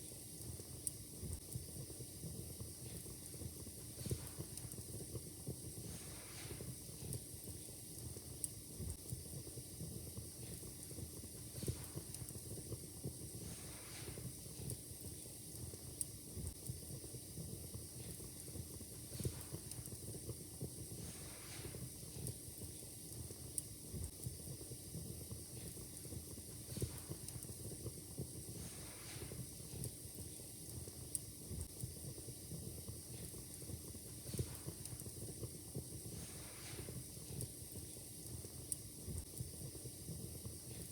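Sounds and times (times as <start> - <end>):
fire crackling in fireplace: 0.0 - 40.9
low rumble and hiss: 0.0 - 40.9.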